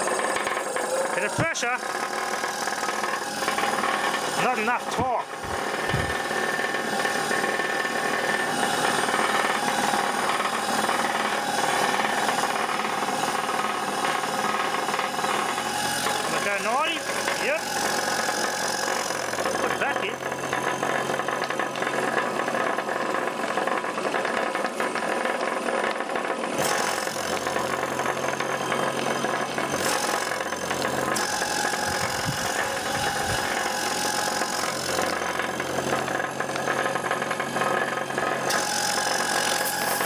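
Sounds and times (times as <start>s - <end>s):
compressor rattling and knocking: 0.0s - 40.0s.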